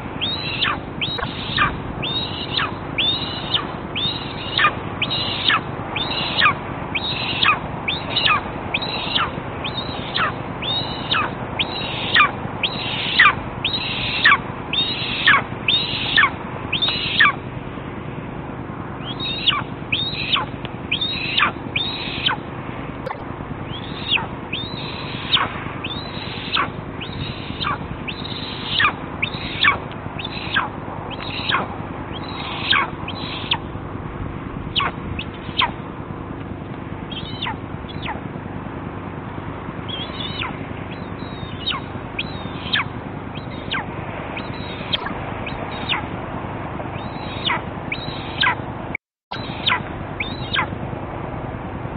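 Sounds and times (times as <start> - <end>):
young eagle begging calls: 0.0 - 17.4, 19.0 - 22.5, 23.1 - 33.7, 34.6 - 35.8, 37.0 - 38.2, 39.9 - 46.1, 46.9 - 48.6, 49.3 - 50.8.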